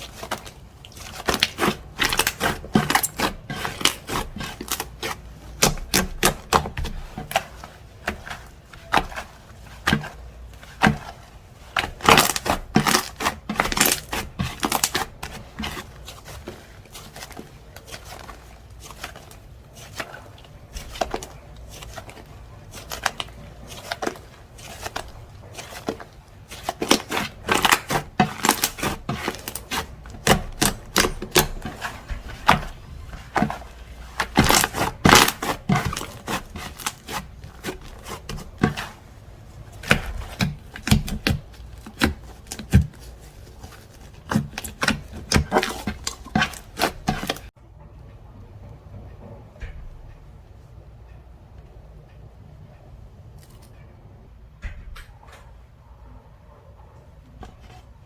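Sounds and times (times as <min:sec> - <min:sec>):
hands squishing slime: 0:00.0 - 0:47.6.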